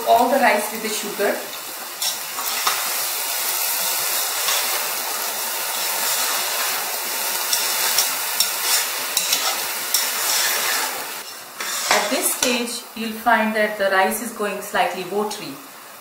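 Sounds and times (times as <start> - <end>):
syrup sizzling in a pot: 0.0 - 12.9.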